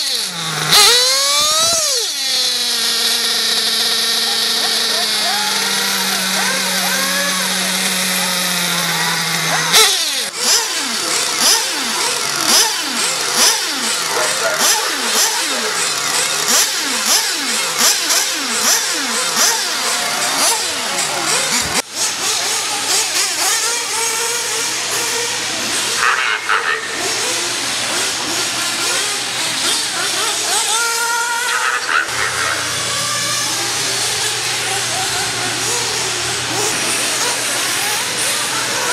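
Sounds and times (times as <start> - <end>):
rc buggies revving past: 0.0 - 38.9
small nitro engine idling: 0.0 - 38.9.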